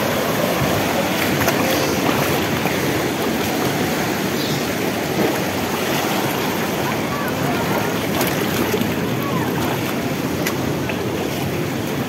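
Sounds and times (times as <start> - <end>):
sea waves washing over rocks: 0.0 - 12.0.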